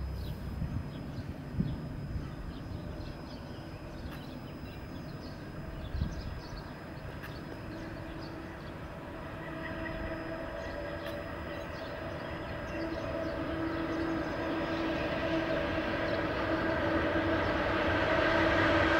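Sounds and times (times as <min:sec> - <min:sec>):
electric locomotive hum: 0:00.0 - 0:18.9.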